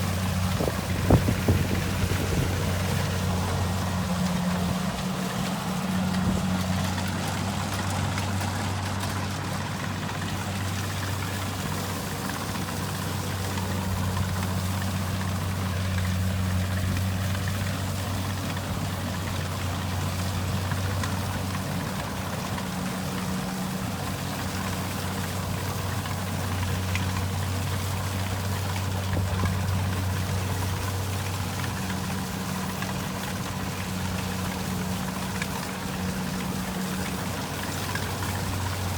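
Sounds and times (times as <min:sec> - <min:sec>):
combine harvester diesel engine drone: 0:00.0 - 0:38.9
rushing rattling machine noise: 0:00.0 - 0:38.9.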